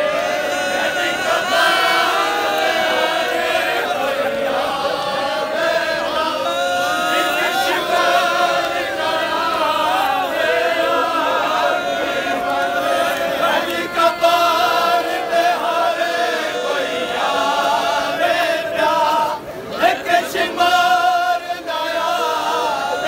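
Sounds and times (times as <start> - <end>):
crowd of men chanting a lament: 0.0 - 23.0.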